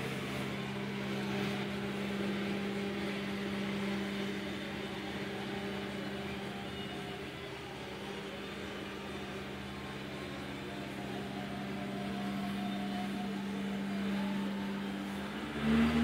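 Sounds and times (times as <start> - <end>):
harvesting machine engine humming: 0.0 - 16.0.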